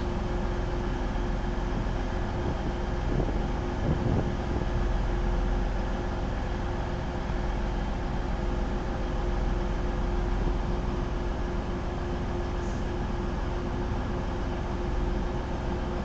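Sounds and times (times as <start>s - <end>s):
diesel train engines idling: 0.0s - 16.0s.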